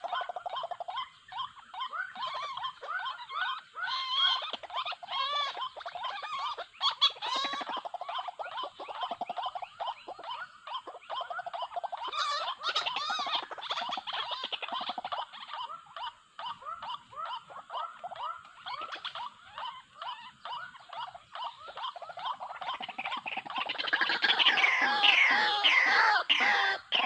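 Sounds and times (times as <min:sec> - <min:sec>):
waterhen croaking calls: 0:00.0 - 0:27.0.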